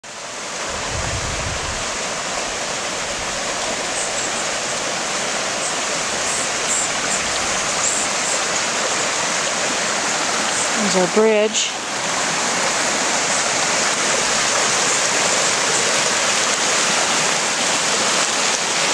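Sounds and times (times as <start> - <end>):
flood water rushing: 0.0 - 18.9.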